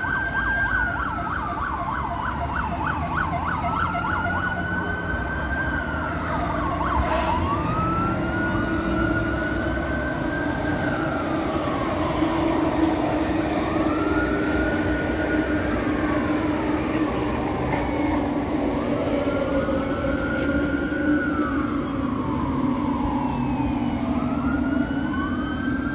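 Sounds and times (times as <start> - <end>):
sirens wailing: 0.0 - 25.9.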